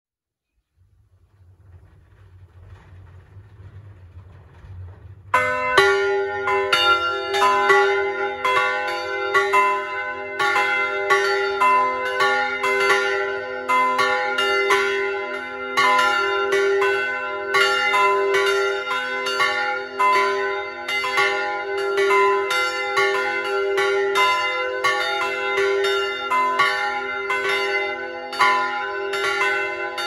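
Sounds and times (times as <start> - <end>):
low hum of swinging bells: 1.6 - 30.0
church bells ringing: 5.3 - 30.0.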